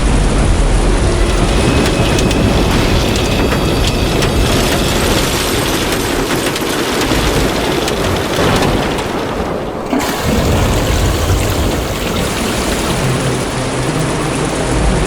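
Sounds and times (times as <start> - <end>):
deep rumbling thunder: 0.0 - 15.0
heavy rain pouring: 0.0 - 15.0.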